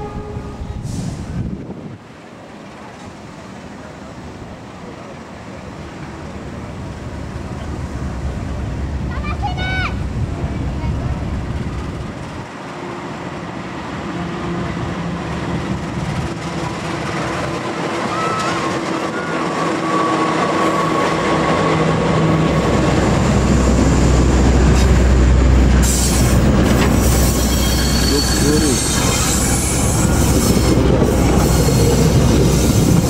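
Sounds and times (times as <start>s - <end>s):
diesel locomotive engine: 0.0s - 33.0s
train wheels rumbling on rails: 0.0s - 33.0s.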